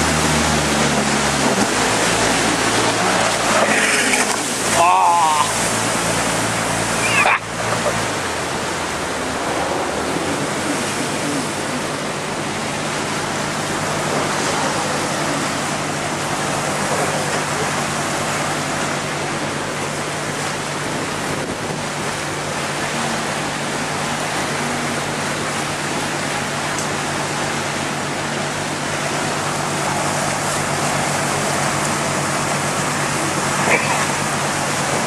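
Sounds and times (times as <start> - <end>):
boat engine droning: 0.0 - 35.0
rush of water and wind: 0.0 - 35.0.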